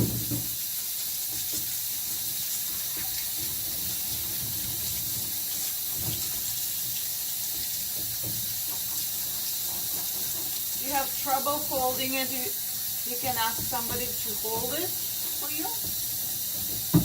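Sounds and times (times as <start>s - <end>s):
bath water running: 0.0s - 17.0s.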